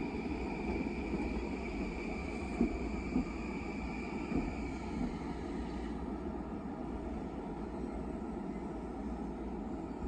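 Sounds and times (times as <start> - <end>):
high train whine: 0.0 - 10.0
train wheels rumbling on rail: 0.0 - 10.0.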